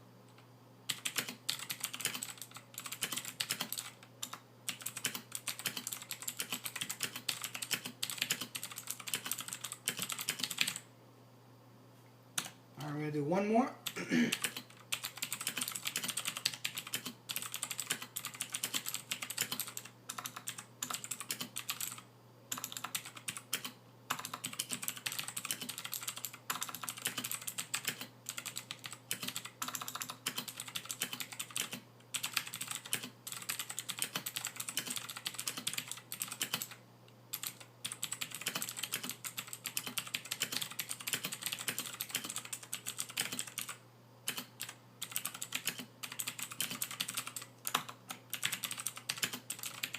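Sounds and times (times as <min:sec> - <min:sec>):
mechanical keyboard typing: 0:00.9 - 0:10.9, 0:13.8 - 0:49.9.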